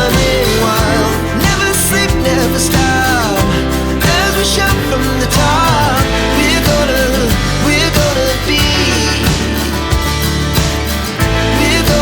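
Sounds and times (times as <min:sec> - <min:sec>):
song with sung melody and bass: 0:00.0 - 0:12.0.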